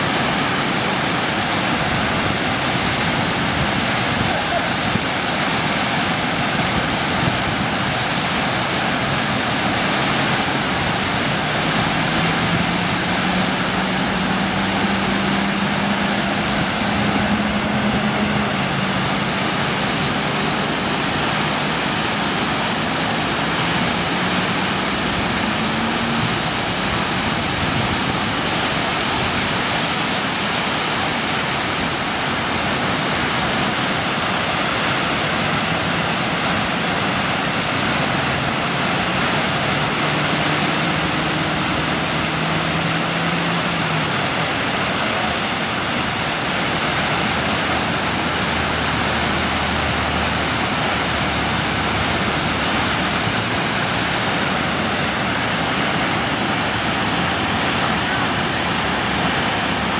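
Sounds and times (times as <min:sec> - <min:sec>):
whitewater roaring: 0:00.0 - 0:59.9.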